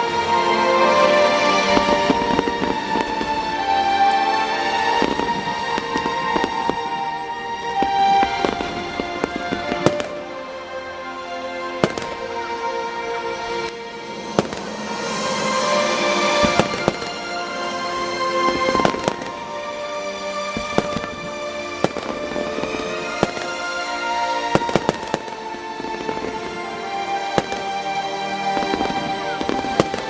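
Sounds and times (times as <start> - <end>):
background music: 0.0 - 30.0
fireworks bangs and crackles: 0.0 - 30.0.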